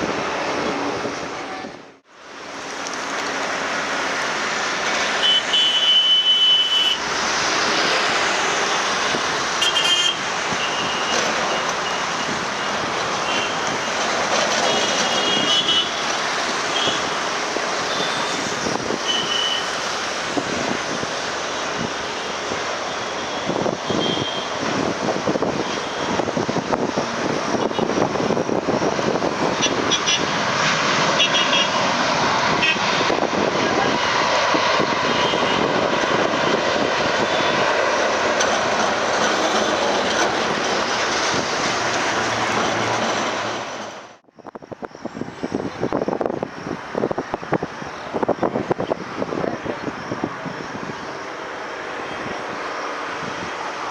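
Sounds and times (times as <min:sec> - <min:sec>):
jet airliner engine: 0:00.0 - 0:53.9
road traffic: 0:00.0 - 0:53.9.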